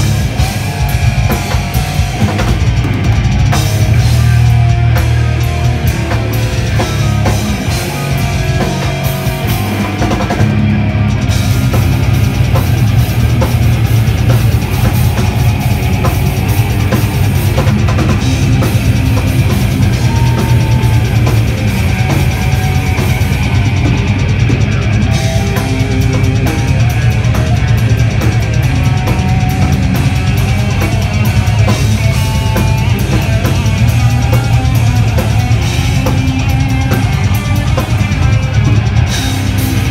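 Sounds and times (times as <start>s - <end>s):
fast dense drumming: 0.0s - 39.9s
heavy metal band playing: 0.0s - 39.9s.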